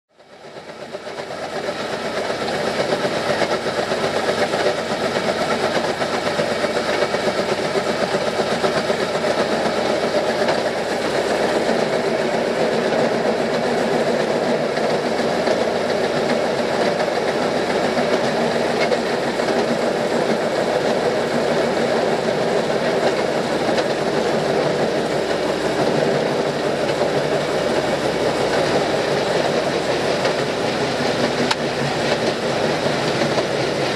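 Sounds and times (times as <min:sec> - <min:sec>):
rail speeder running on track: 0:00.1 - 0:33.9.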